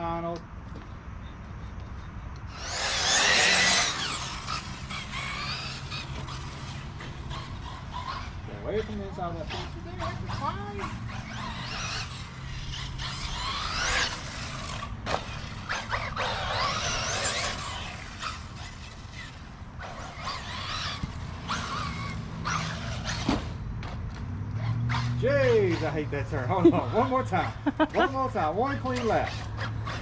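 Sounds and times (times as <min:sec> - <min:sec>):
electric toy car motor whining: 0:02.4 - 0:24.0, 0:24.6 - 0:30.0.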